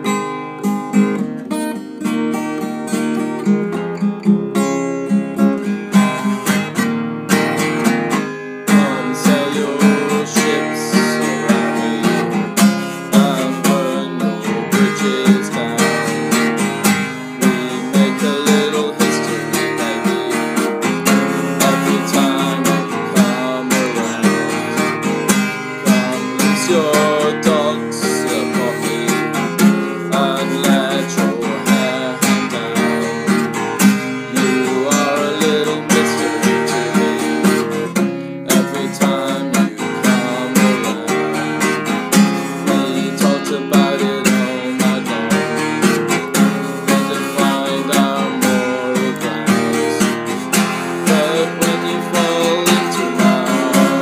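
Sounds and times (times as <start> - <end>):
acoustic guitar strumming: 0.0 - 54.0
man singing: 8.6 - 54.0.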